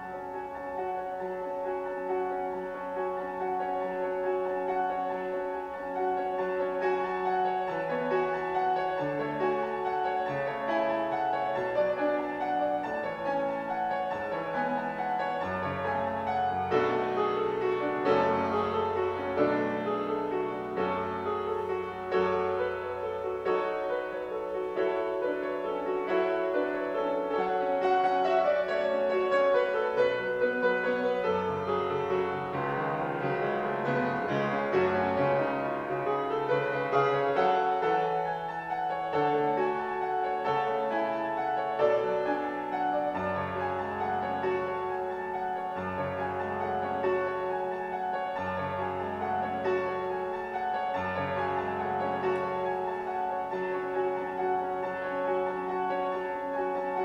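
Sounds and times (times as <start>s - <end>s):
solo piano piece: 0.0s - 57.0s.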